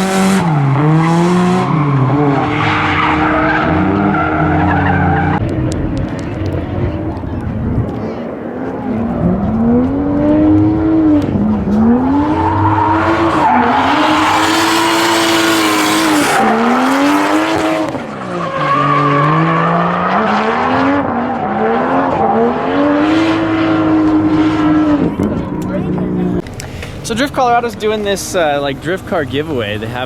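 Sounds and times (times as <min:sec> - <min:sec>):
car engine revving: 0:00.0 - 0:27.4.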